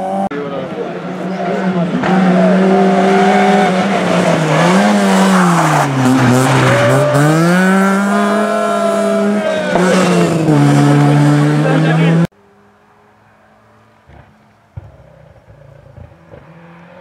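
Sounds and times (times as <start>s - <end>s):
rally car engine revving: 0.0s - 12.3s, 13.5s - 17.0s.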